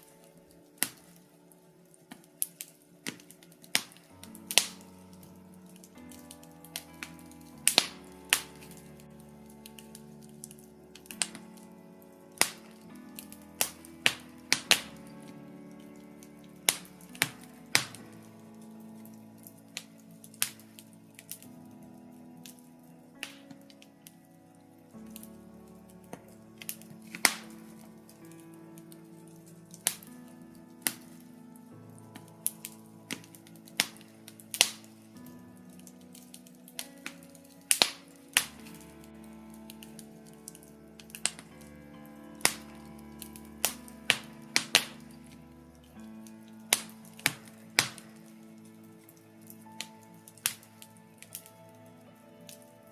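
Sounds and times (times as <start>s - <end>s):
logs crackling in a fireplace: 0.0s - 52.9s
soft background music: 0.0s - 52.9s.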